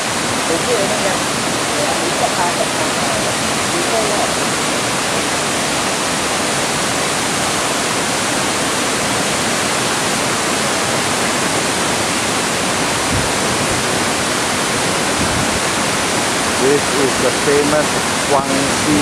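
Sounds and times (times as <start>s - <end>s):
waterfall pouring over rock: 0.0s - 19.0s.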